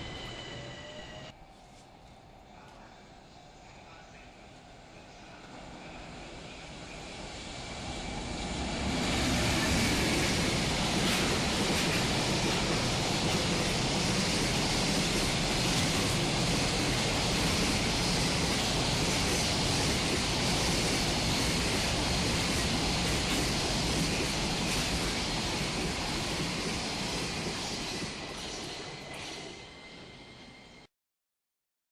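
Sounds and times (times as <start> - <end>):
freight train passing: 0.0 - 30.9.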